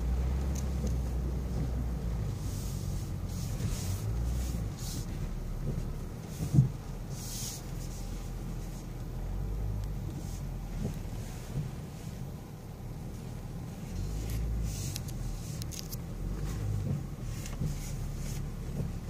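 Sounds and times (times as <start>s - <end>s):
car rumbling over ruts: 0.0s - 19.0s.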